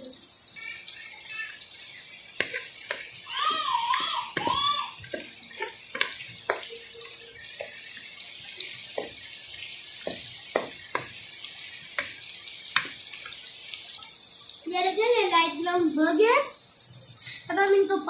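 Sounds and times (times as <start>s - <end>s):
frying in hot oil: 0.0s - 18.0s.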